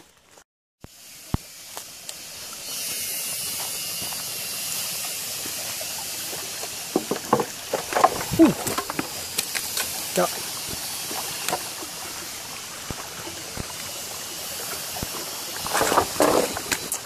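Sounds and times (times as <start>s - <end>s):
stream water rushing: 1.2s - 17.0s.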